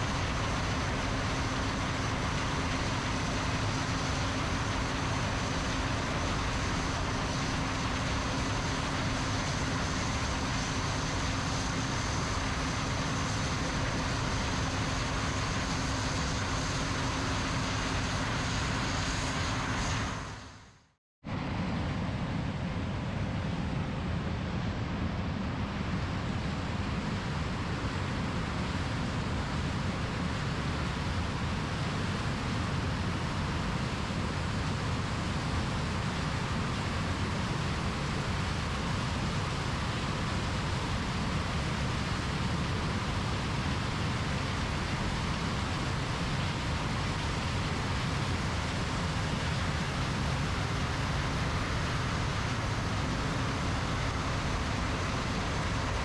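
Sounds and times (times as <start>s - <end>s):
diesel harvest machinery drone: 0.0s - 20.7s, 21.3s - 56.0s.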